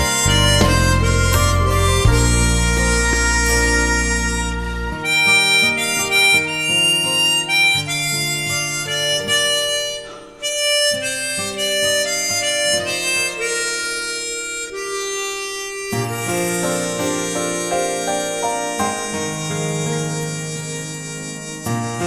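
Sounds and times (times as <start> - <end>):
harmonica playing slow melody: 0.0 - 22.0.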